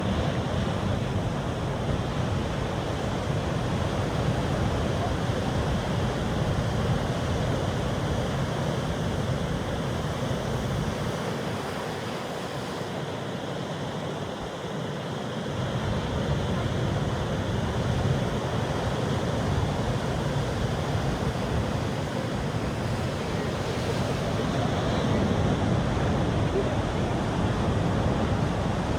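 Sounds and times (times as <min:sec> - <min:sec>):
waves breaking: 0:00.0 - 0:28.9.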